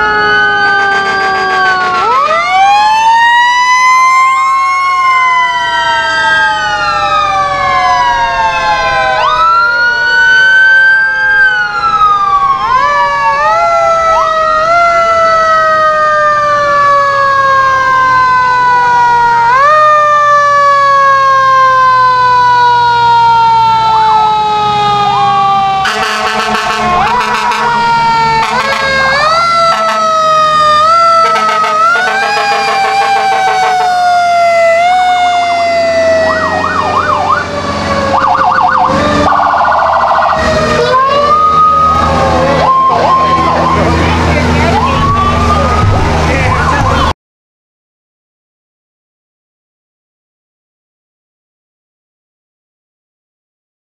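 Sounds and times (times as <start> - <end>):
rapid pulsing siren bursts: 0.0 - 47.1
truck engines running: 0.0 - 47.1
fire truck sirens wailing: 0.0 - 47.2.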